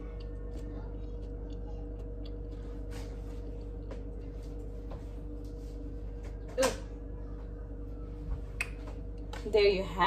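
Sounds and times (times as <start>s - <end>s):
low hum with faint tone: 0.0s - 10.0s.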